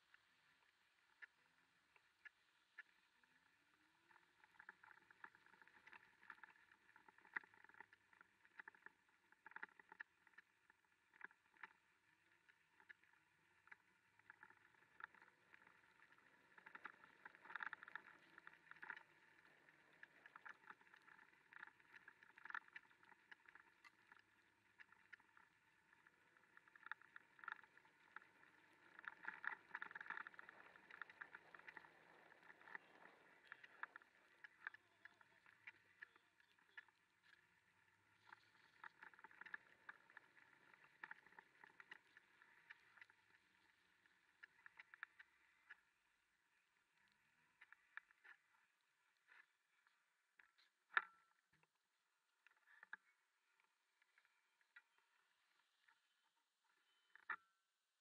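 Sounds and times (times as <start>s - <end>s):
rain and sleet pattering: 0.0s - 51.6s.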